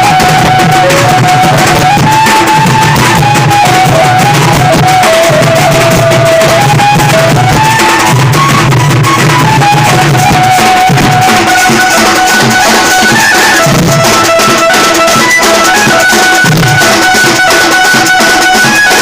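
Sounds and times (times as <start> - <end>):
loud busy drumming: 0.0 - 19.0
shaken percussion: 0.0 - 19.0.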